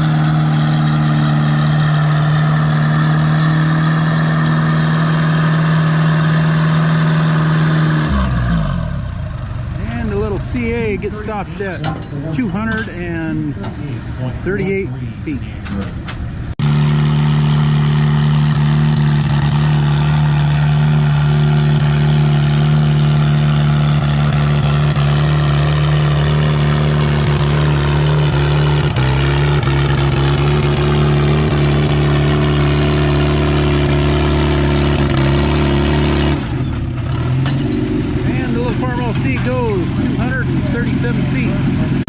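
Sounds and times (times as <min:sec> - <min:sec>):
tractor engine under load: 0:00.0 - 0:42.0.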